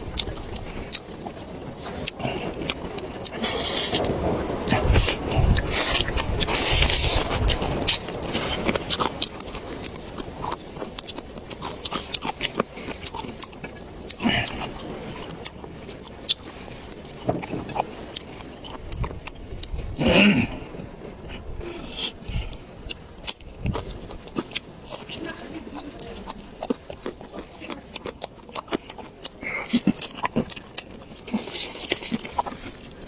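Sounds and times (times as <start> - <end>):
chewing and mouth clicks: 0.0 - 33.0.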